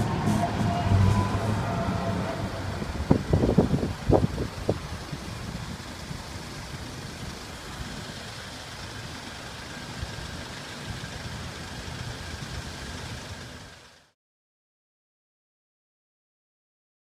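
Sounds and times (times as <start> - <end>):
car engines idling in traffic: 0.0 - 14.2.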